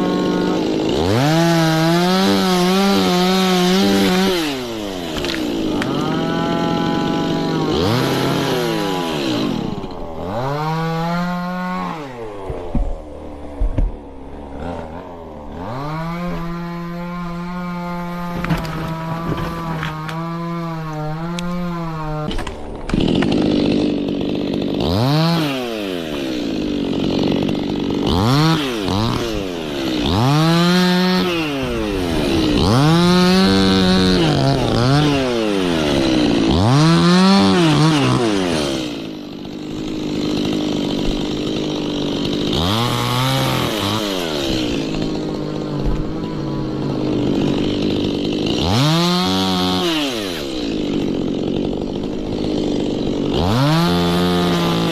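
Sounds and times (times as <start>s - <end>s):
chainsaw revving: 0.0s - 54.9s.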